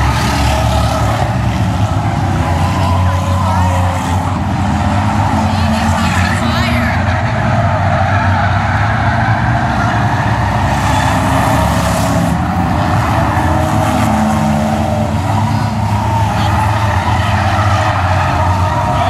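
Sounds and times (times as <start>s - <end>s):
cars passing close by: 0.0s - 19.0s
race car engines droning: 0.0s - 19.0s.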